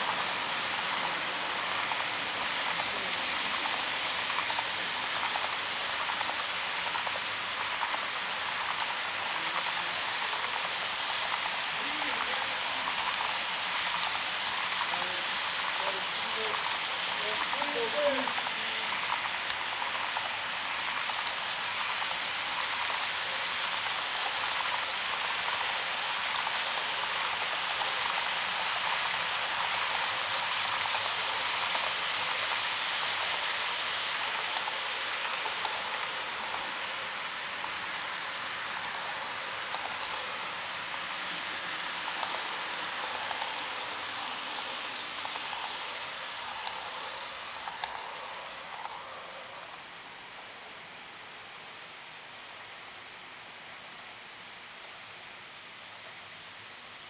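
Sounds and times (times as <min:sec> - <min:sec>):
model train wheels rattling on rails: 0:00.0 - 0:56.2.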